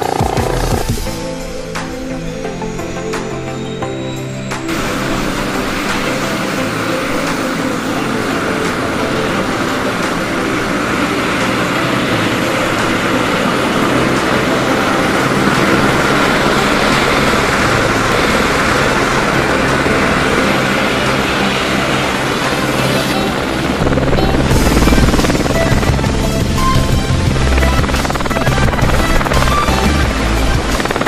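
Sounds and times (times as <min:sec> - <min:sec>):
helicopter rotor and turbines: 0:00.0 - 0:31.0.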